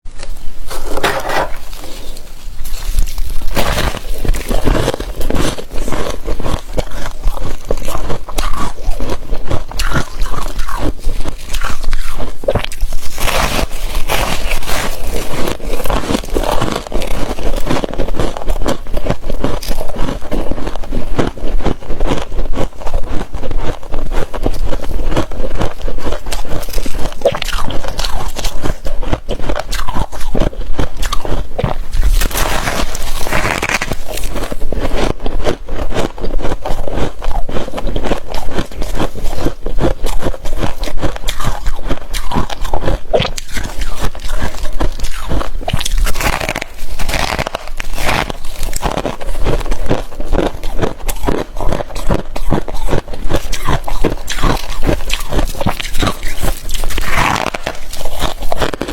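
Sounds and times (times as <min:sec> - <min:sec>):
freezer frost crunching and scraping: 0:00.1 - 0:58.9.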